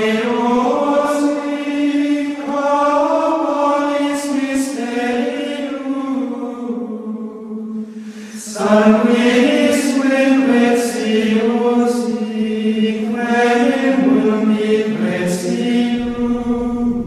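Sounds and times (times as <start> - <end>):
choir chanting: 0.0 - 17.0.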